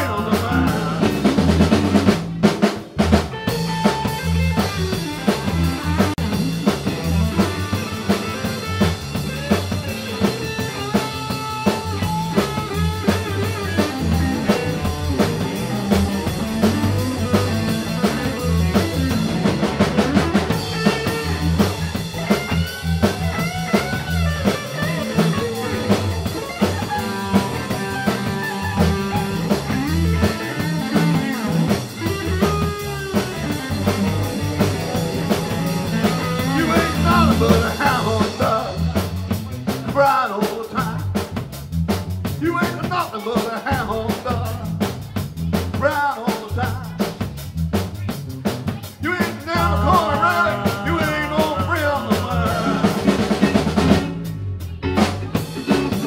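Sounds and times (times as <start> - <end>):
electric guitar lead lines: 0.0 - 39.7, 49.2 - 56.0
bass guitar: 0.0 - 56.0
drum kit steady beat: 0.0 - 56.0.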